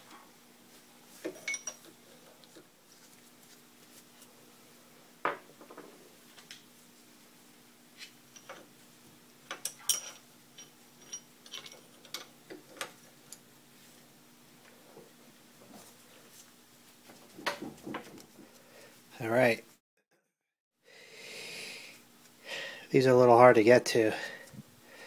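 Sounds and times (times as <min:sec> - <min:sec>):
faint steady hum: 0:00.0 - 0:19.6, 0:20.8 - 0:25.0.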